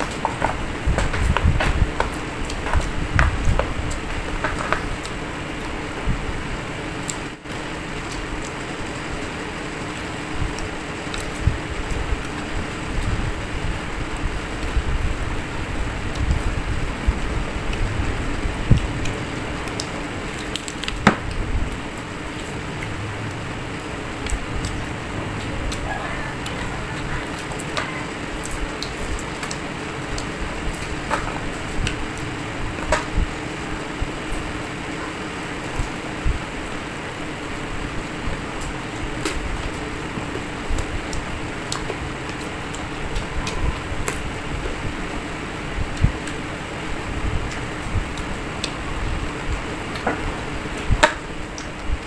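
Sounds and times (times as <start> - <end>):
background hiss: 0.0 - 52.0
steady background noise: 0.0 - 52.0.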